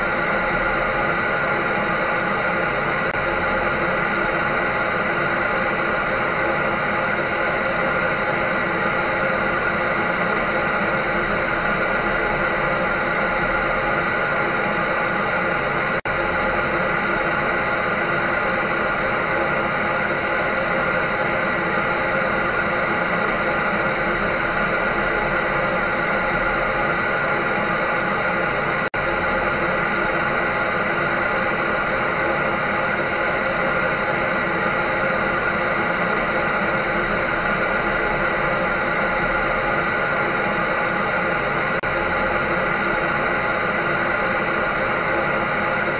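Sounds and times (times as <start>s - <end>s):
dryer blowing air: 0.0s - 45.9s.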